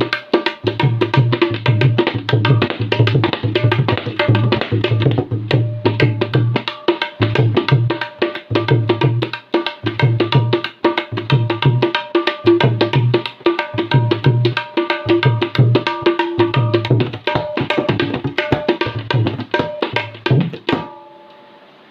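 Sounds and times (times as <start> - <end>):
tabla bass drum strokes: 0.0 - 21.6
tabla treble drum strokes: 0.0 - 21.6.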